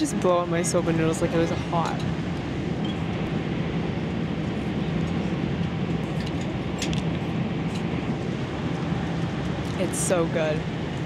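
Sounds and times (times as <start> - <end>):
airliner cabin roar: 0.0 - 11.0.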